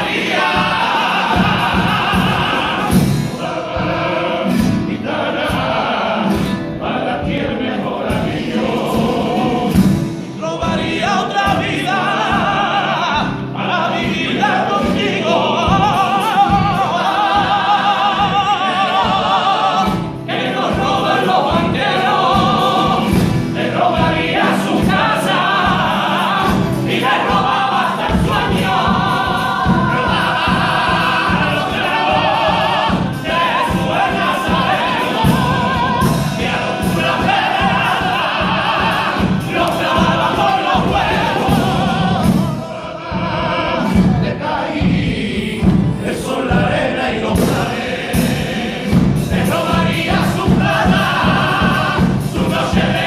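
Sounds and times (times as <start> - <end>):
group singing in chorus: 0.0 - 53.0
rhythmic musical accompaniment: 0.0 - 53.0.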